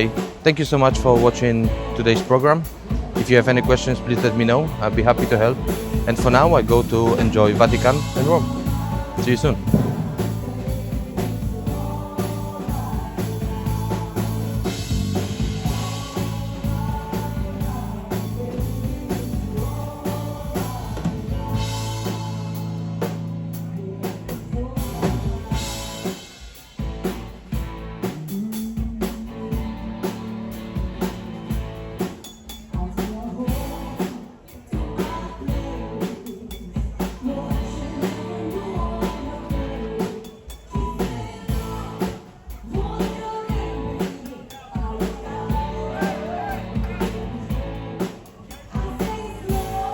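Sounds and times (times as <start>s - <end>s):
person singing: 0.0s - 26.4s, 28.0s - 30.4s, 32.7s - 49.9s
music with drums: 0.0s - 49.9s.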